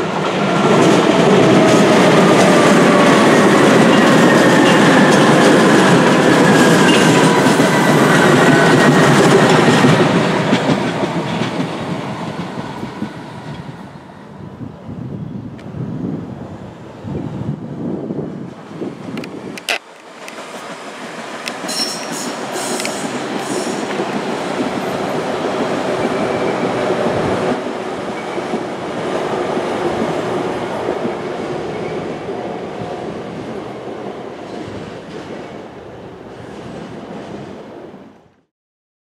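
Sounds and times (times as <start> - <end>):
train wheels rumbling on rail: 0.0 - 38.1.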